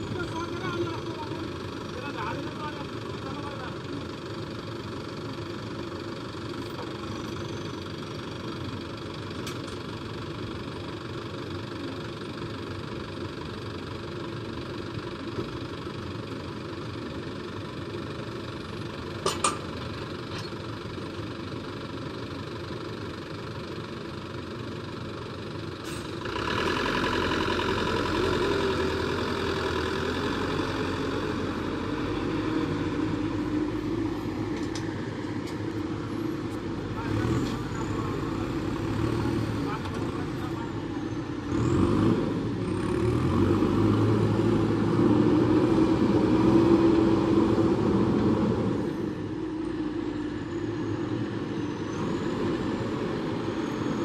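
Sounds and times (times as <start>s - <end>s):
backhoe diesel engine running: 0.0s - 54.0s.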